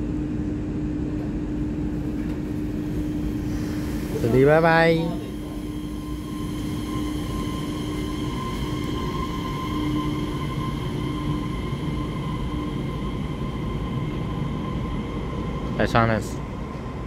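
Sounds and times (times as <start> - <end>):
high electric whine: 1.6 - 16.9
train wheels rumbling: 1.7 - 17.0.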